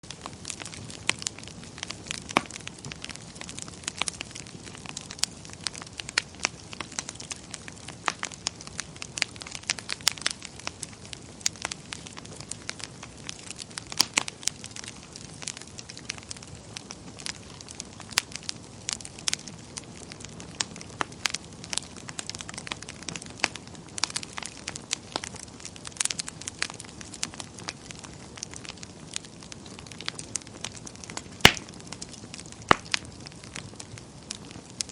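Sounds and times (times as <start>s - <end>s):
logs crackling and popping: 0.0s - 34.9s
flames rushing: 0.1s - 34.9s.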